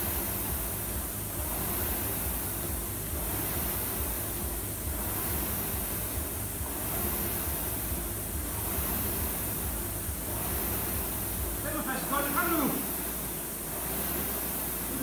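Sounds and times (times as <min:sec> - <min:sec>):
rowing machine flywheel whooshing: 0:00.0 - 0:15.0.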